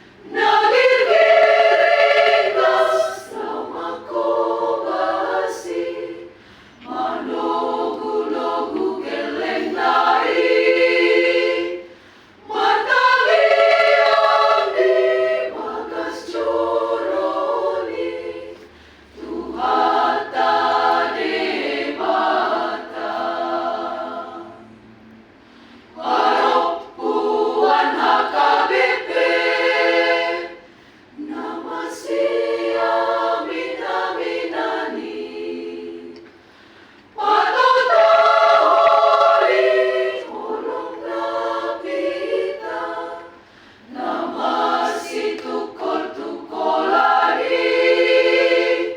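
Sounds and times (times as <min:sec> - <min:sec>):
choir singing unaccompanied: 0:00.0 - 0:25.0, 0:25.9 - 0:48.9.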